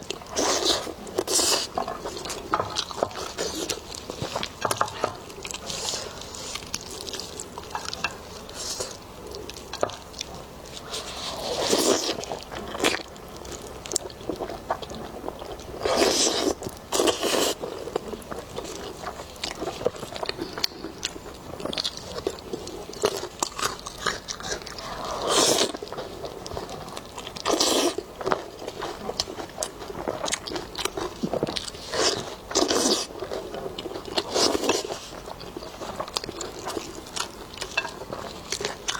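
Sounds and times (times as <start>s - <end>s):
person chewing ribs: 0.0s - 38.9s.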